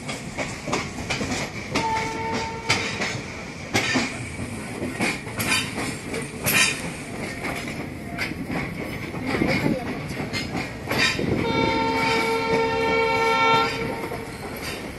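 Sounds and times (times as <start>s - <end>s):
train wheels clanking over rail joints: 0.0s - 14.9s.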